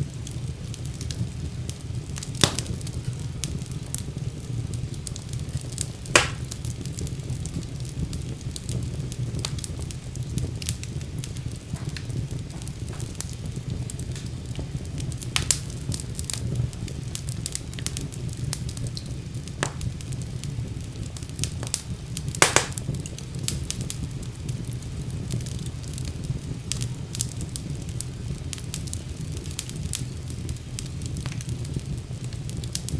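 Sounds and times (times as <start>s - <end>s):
fire crackling in a fireplace: 0.0s - 32.9s
loud fire pops: 0.0s - 32.9s.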